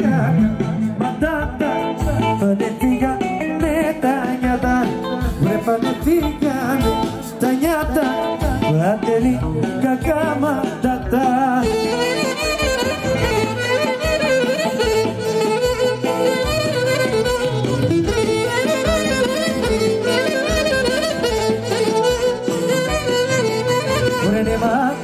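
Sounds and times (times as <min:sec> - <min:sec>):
folk dance music: 0:00.0 - 0:25.0.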